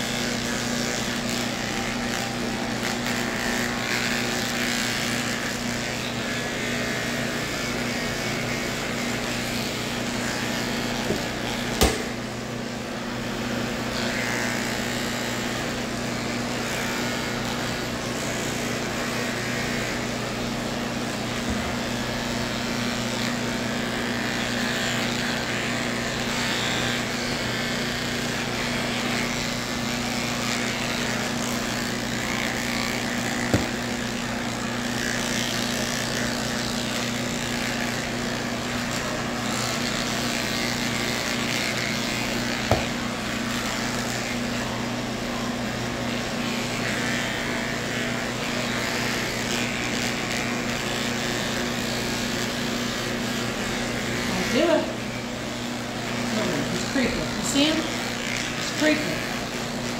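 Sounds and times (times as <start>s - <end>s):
electric pet clippers humming: 0.0s - 59.9s.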